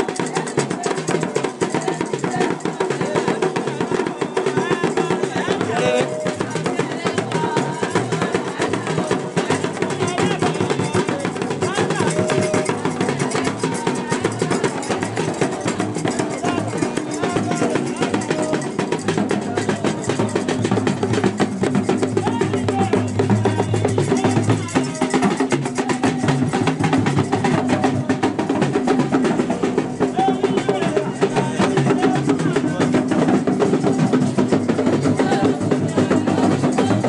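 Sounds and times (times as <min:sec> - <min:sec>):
talking drums played with sticks: 0:00.0 - 0:37.0
voices singing: 0:00.0 - 0:37.0.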